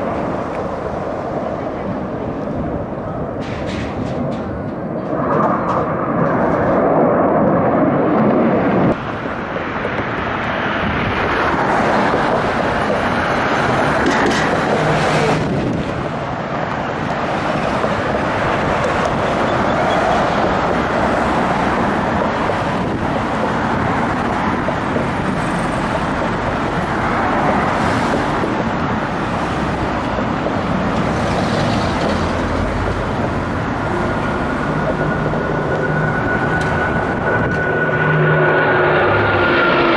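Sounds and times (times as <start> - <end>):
fighter jets flying past: 0.0 - 39.9.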